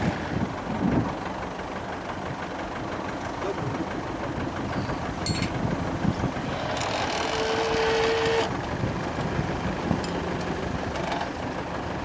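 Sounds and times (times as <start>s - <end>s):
tractor engine running: 0.0s - 12.0s
fast even mechanical ticking: 1.2s - 12.0s.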